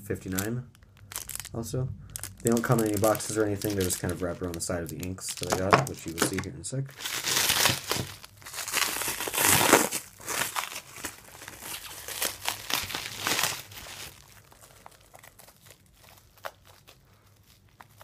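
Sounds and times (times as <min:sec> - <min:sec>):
plastic cling wrap crinkling: 0:00.0 - 0:18.0.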